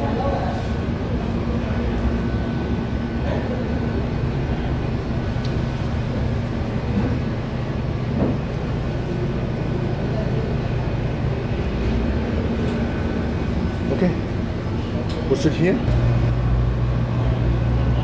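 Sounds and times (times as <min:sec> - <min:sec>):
faint constant hum: 0:00.0 - 0:18.0.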